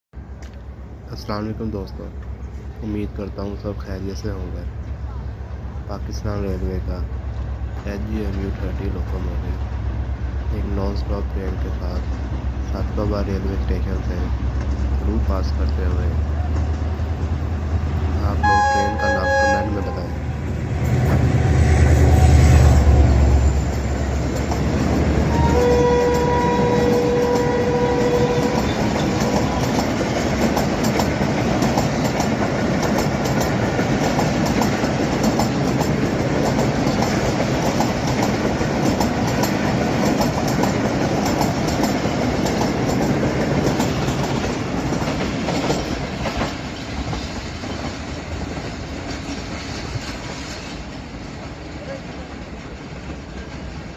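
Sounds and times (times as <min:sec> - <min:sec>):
diesel locomotive engine rumble: 0:00.2 - 0:53.9
train coaches clickety-clack: 0:00.2 - 0:53.9.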